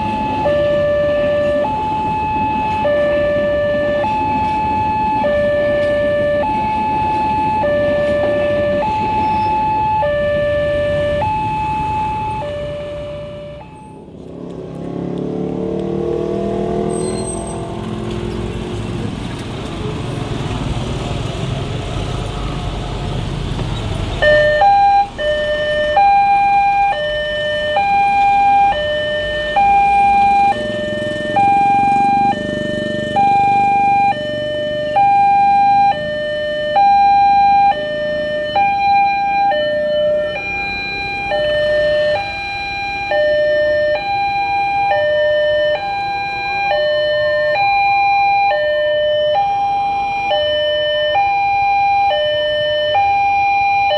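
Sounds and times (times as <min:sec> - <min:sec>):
two-tone electronic crossing alarm: 0:00.0 - 0:14.1, 0:24.2 - 0:53.9
low road traffic rumble: 0:00.0 - 0:53.9.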